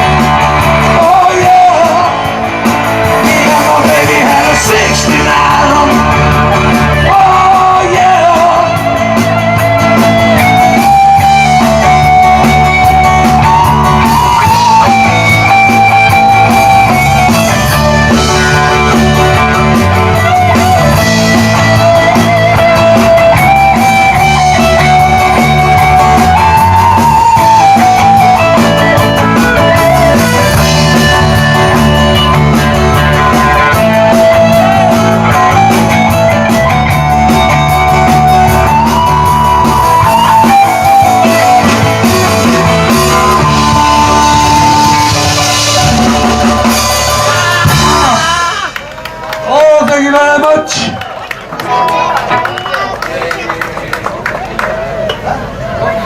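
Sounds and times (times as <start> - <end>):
bass: 0.0 - 56.0
drums: 0.0 - 56.0
electric guitar melody with bent notes: 0.0 - 56.0.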